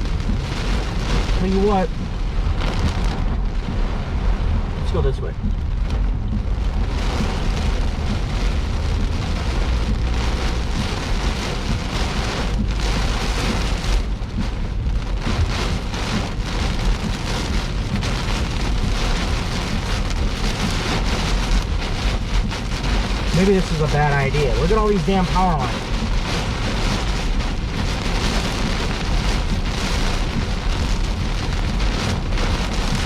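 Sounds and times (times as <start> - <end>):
heavy rain on a car: 0.0 - 33.0
wind rumbling: 0.0 - 33.0.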